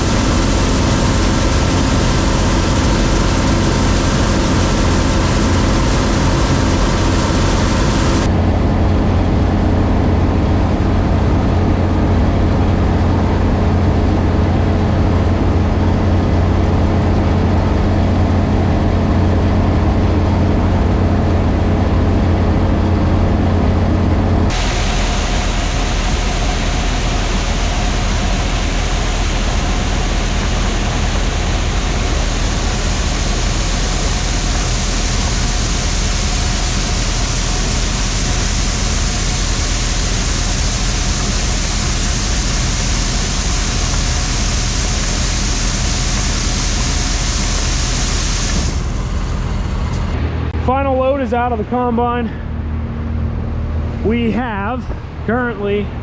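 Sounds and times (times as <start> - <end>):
combine harvester droning: 0.0 - 51.5.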